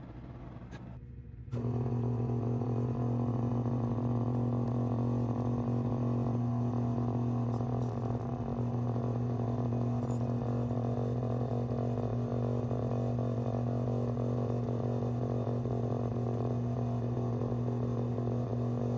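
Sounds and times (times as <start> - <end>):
electric machine humming: 1.5 - 18.9.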